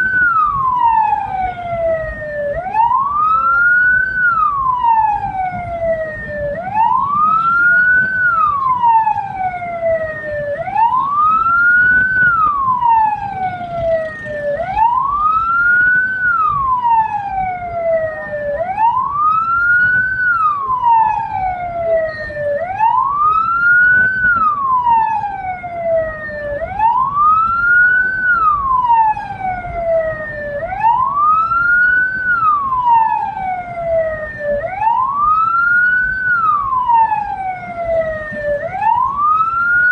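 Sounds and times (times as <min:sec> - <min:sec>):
electronic siren wailing: 0:00.0 - 0:39.9
vehicle and road rumble: 0:00.0 - 0:39.9.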